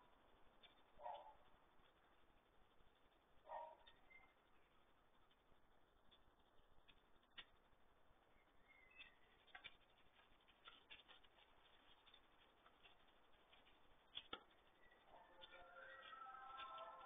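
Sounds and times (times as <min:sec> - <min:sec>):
faint scattered clicks: 0:00.0 - 0:17.0.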